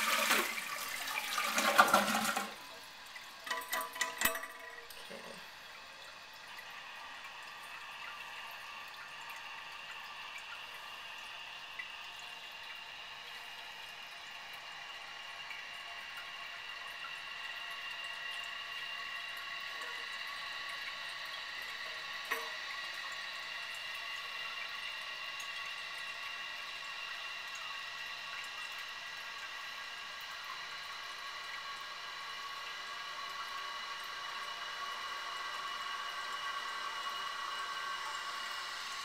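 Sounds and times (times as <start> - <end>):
toilet fill valve hissing: 0.0 - 39.0.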